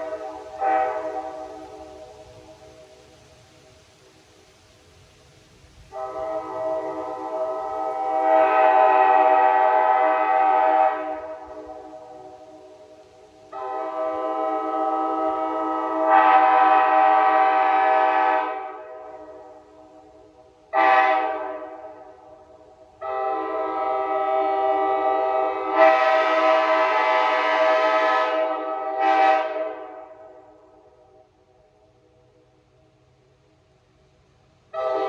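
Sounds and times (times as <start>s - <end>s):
train horn blasts: 0.0s - 2.8s, 5.8s - 31.8s, 34.7s - 35.0s.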